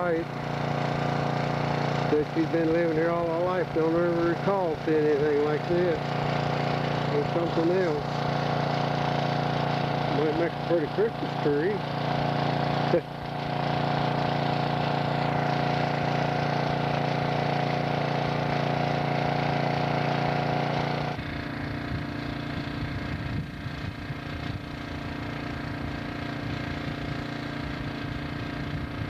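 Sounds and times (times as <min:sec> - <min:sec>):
generator engine running: 0:00.0 - 0:29.0.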